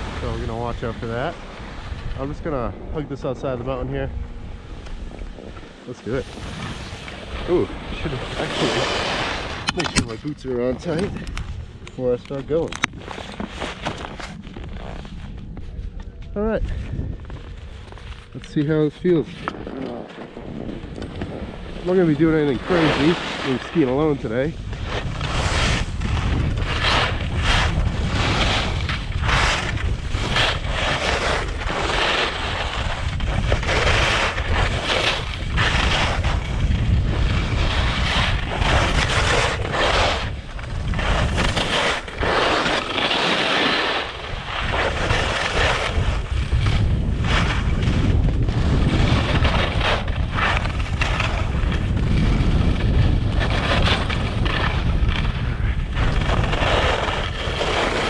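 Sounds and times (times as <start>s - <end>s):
skis sliding on packed snow: 0.0s - 4.0s, 4.7s - 11.3s, 11.9s - 58.0s
wind buffeting microphone: 0.0s - 58.0s.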